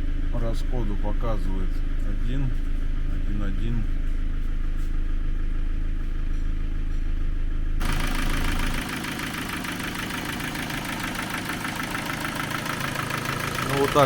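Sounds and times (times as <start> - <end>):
car engine idling with valve clatter: 0.0 - 14.0.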